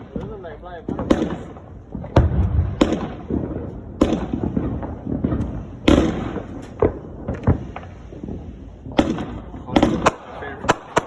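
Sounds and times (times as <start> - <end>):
crackle of firework bursts: 0.0 - 11.0
firework booms: 0.0 - 11.0.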